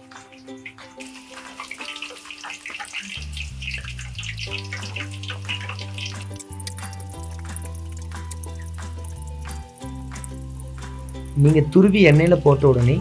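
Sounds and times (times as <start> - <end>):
background music: 0.0 - 13.0
plantain slices sizzling in oil: 0.0 - 13.0.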